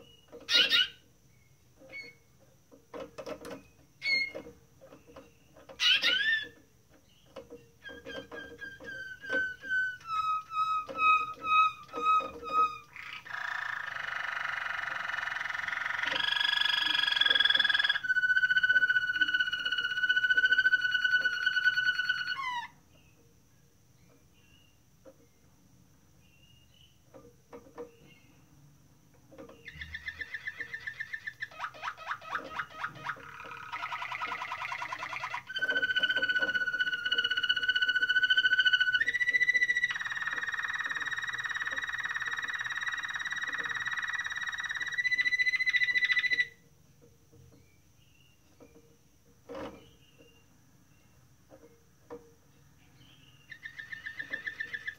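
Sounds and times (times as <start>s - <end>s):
canary singing: 0.0s - 23.3s, 29.3s - 46.6s, 49.5s - 54.9s.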